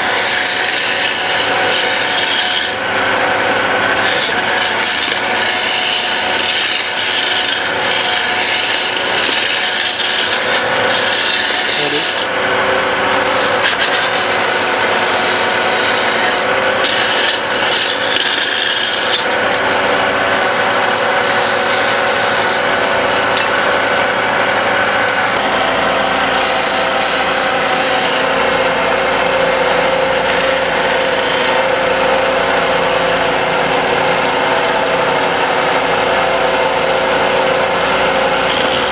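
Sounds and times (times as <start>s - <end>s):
tool rasping on spinning wood: 0.0s - 38.9s
wood lathe humming: 0.0s - 38.9s.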